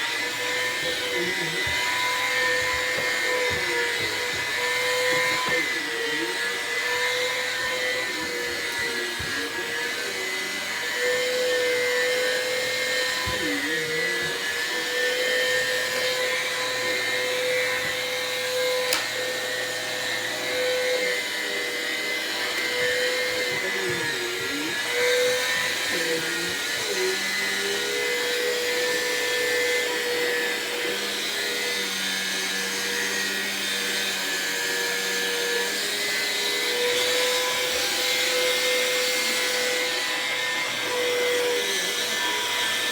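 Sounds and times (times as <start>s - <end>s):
vacuum cleaner motor humming: 0.0s - 42.9s.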